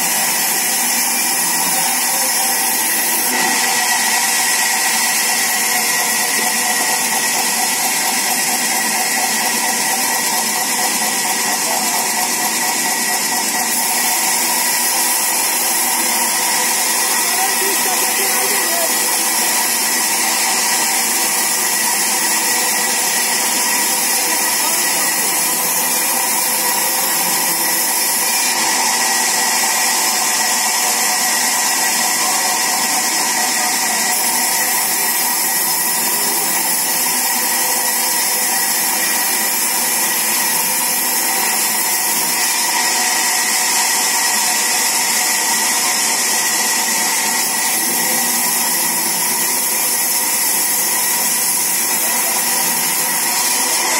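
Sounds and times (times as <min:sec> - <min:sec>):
band saw cutting log: 0:00.0 - 0:53.9.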